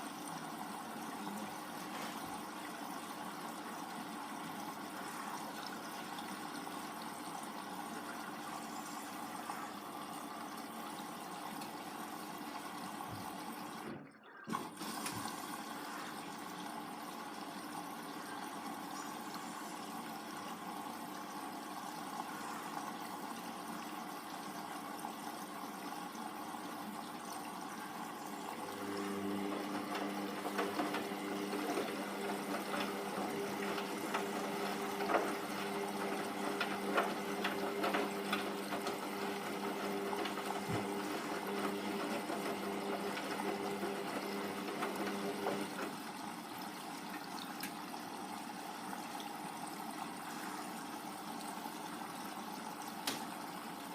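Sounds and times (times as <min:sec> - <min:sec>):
washing machine motor hum: 0:00.0 - 0:53.9
water and laundry sloshing: 0:00.0 - 0:53.9.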